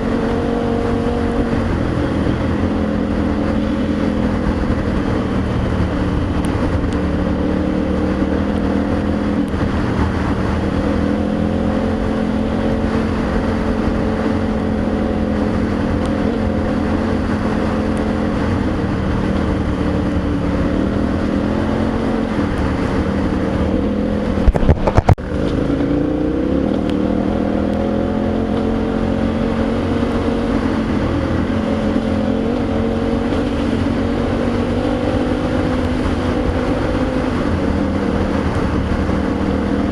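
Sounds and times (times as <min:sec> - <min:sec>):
motorcycle engine cruising: 0:00.0 - 0:39.9
rushing wind noise: 0:00.0 - 0:39.9.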